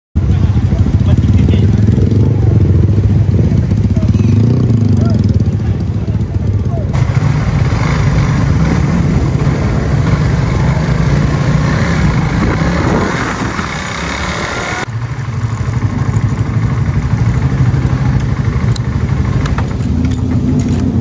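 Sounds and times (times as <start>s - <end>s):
motorcycle engine running: 0.2s - 21.0s.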